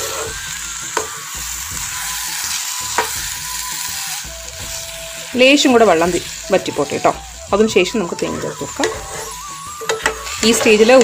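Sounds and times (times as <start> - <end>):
curry sizzling and bubbling in pan: 0.0 - 11.0.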